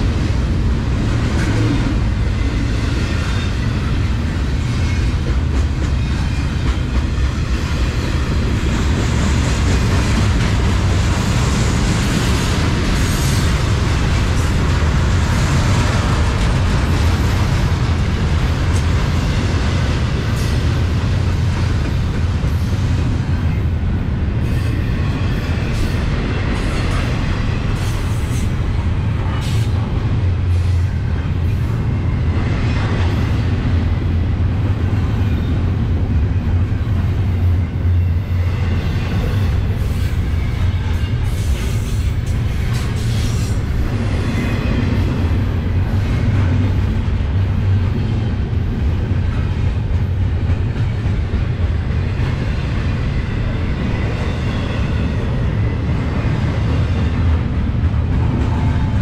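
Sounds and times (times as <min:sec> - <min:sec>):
freight train wheels rolling: 0:00.0 - 0:59.0.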